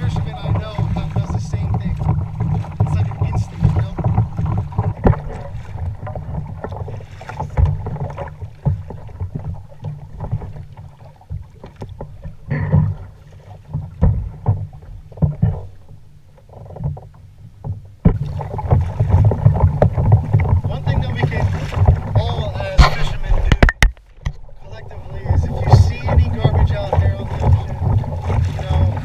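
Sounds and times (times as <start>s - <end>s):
knocks against kayak: 0.0s - 15.9s, 16.7s - 24.4s, 25.2s - 29.0s
rumble of water and wind: 0.0s - 29.0s.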